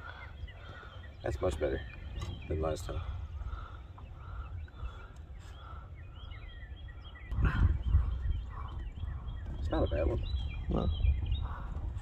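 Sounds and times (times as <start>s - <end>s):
distant birds calling: 0.0s - 12.0s
wind rumble on microphone: 0.0s - 12.0s.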